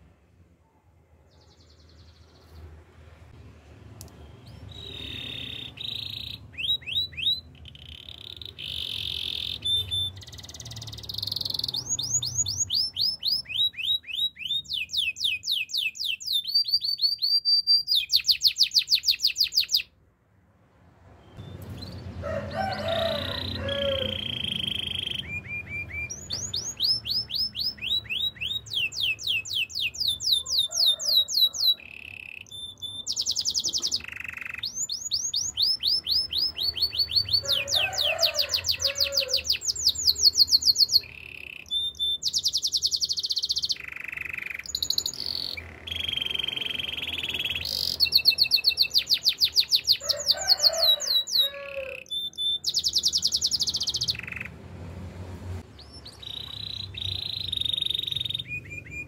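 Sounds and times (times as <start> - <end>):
canary singing trills: 4.0 - 20.0, 21.2 - 54.6, 55.7 - 59.0.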